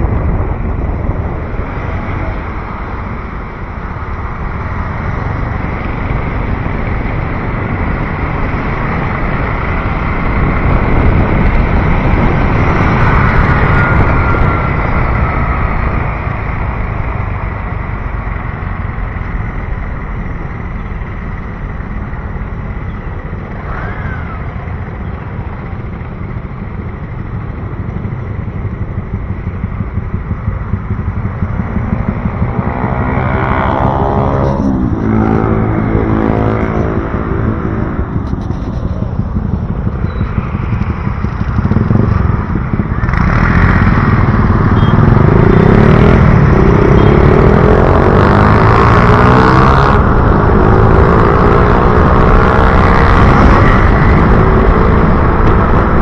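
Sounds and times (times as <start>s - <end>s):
city road traffic: 0.0s - 56.0s.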